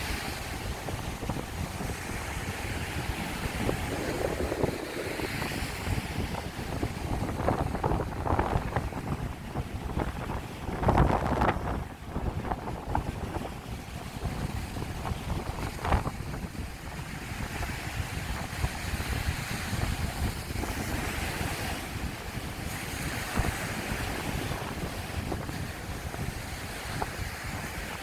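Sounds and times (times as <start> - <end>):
sea waves washing up beach: 0.0 - 28.0
wind buffeting microphone: 0.0 - 28.0.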